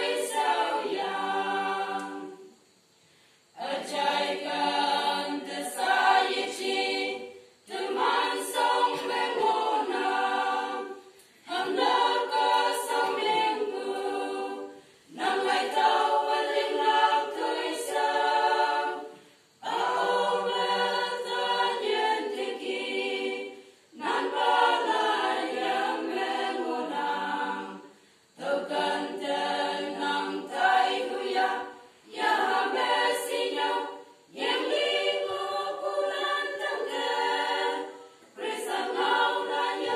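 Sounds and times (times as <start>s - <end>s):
women's choir singing: 0.0s - 2.8s, 3.5s - 39.9s.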